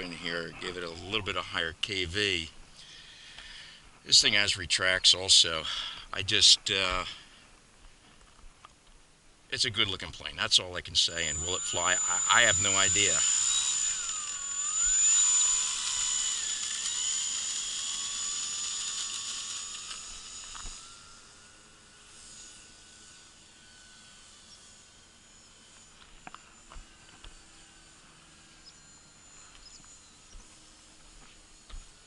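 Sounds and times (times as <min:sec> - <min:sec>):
electric motor and propeller whining: 0:00.0 - 0:04.2, 0:09.9 - 0:32.0.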